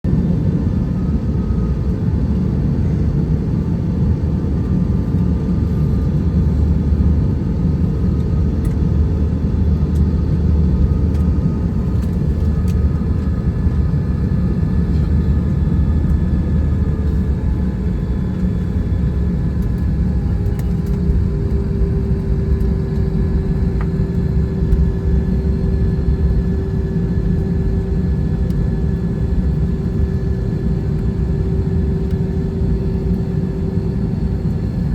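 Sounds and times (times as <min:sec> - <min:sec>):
engine whine: 0:00.1 - 0:34.9
jet engines running: 0:00.1 - 0:34.9.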